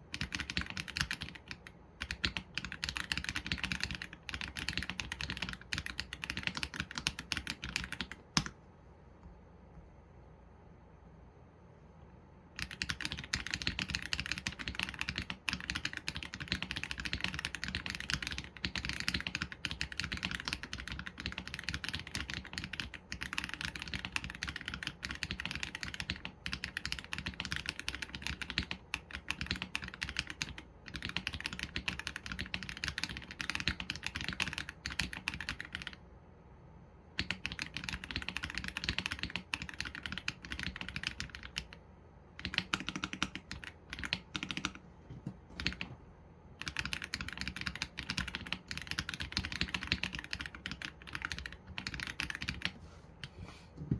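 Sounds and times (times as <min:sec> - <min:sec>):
mechanical keyboard typing: 0:00.0 - 0:08.6, 0:12.5 - 0:36.0, 0:37.2 - 0:41.8, 0:42.4 - 0:46.0, 0:46.6 - 0:52.8.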